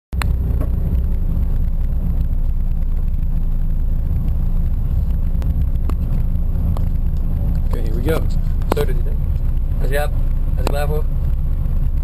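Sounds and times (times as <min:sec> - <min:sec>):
car engine running: 0:00.1 - 0:12.0.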